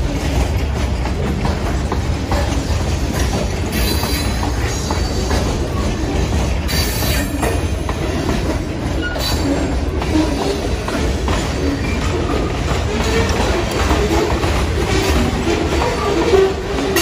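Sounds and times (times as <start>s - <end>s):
train wheels rumbling on rail: 0.0s - 17.0s
wheel squeals: 2.5s - 17.0s.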